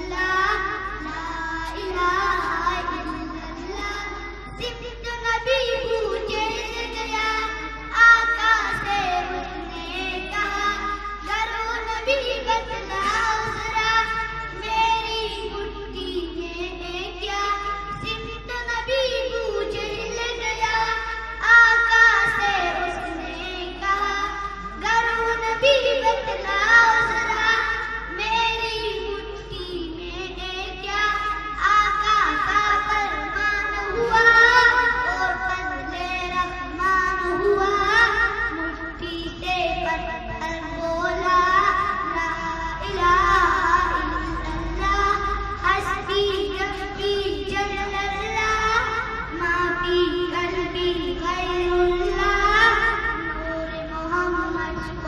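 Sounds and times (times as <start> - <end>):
girl singing into microphone: 0.0 - 55.0.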